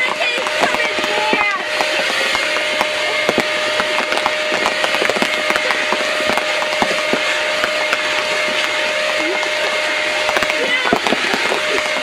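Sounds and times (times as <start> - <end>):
raindrops ticking on microphone: 0.0 - 12.0.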